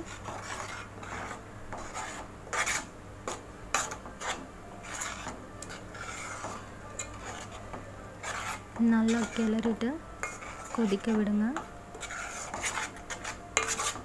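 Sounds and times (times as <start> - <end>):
spoon scraping a steel pan: 0.0 - 14.0.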